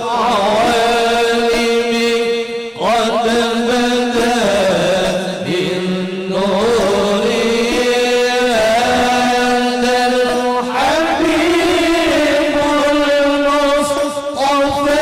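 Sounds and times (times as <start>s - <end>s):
person chanting sliding phrases: 0.0s - 15.0s.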